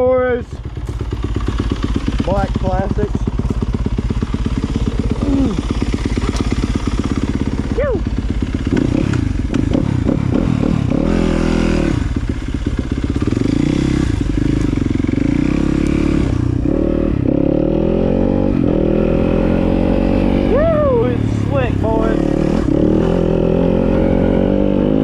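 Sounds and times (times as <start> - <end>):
dirt bike engine accelerating: 0.0 - 25.0.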